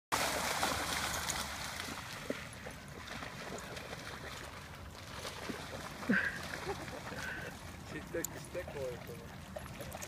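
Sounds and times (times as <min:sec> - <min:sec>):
dogs splashing through water: 0:00.1 - 0:10.0.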